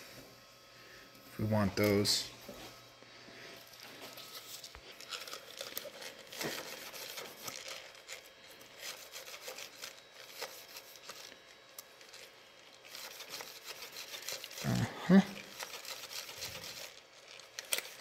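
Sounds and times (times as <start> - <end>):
brush scrubbing: 3.4 - 18.0.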